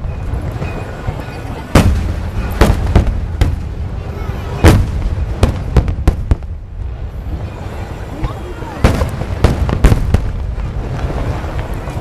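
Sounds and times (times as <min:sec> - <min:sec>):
continuous low rumble: 0:00.0 - 0:12.0
crackling fireworks: 0:00.0 - 0:12.0
fireworks bursting with sharp bangs: 0:00.0 - 0:12.0.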